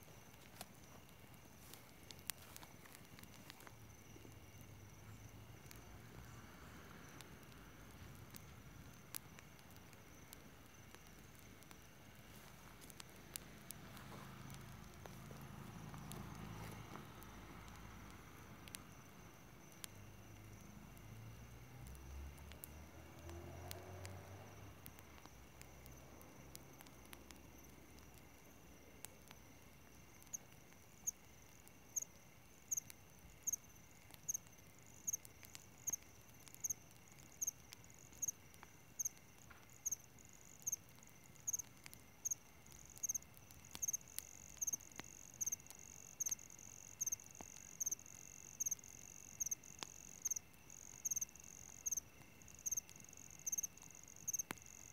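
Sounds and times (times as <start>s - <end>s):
high-pitched cricket trill: 0.0s - 54.9s
loud cricket chirp: 0.0s - 54.9s.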